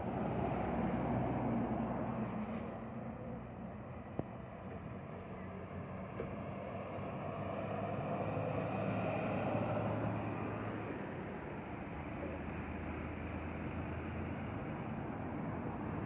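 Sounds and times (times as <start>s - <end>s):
trucks driving past: 0.0s - 16.0s.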